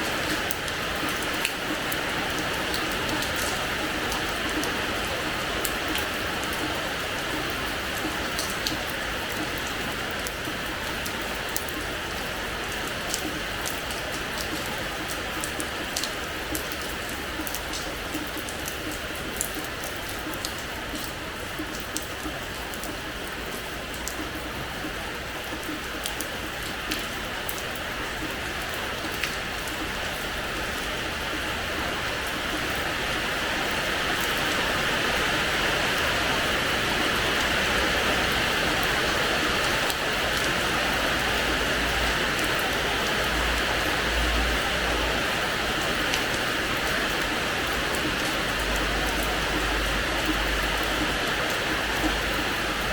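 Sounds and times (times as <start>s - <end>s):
rain drops ticking: 0.0s - 52.9s
rain on a hard floor: 0.0s - 52.9s.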